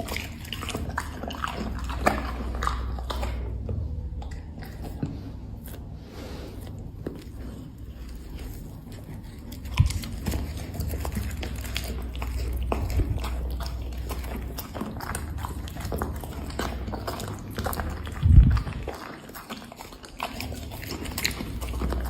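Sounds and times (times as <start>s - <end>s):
dog crunching treats: 0.0s - 22.0s.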